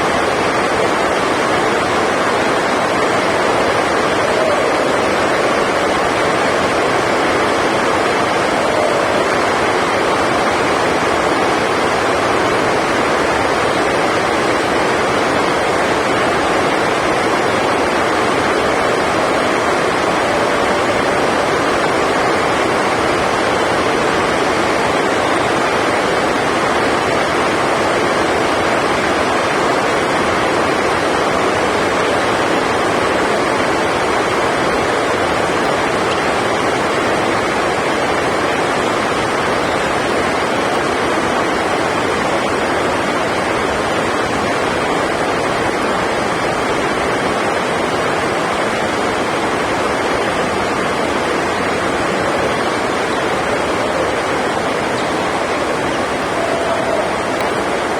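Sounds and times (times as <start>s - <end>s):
heavy rain drumming on a roof: 0.0s - 57.9s.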